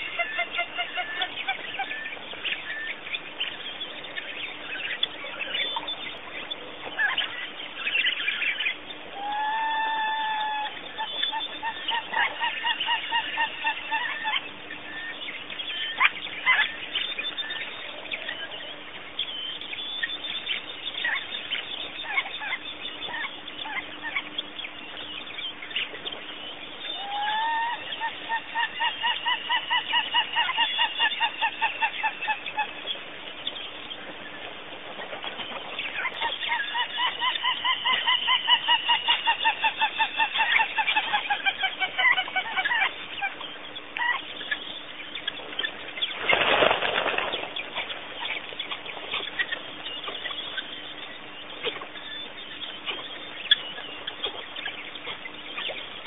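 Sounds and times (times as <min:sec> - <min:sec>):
bird repeated calls: 0:00.0 - 0:56.0.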